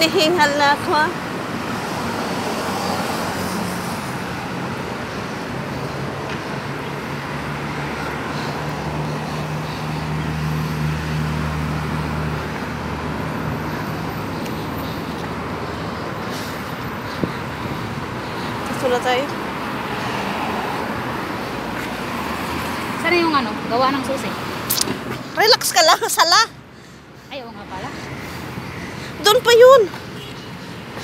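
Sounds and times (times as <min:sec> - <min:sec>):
street traffic noise: 0:00.0 - 0:31.0.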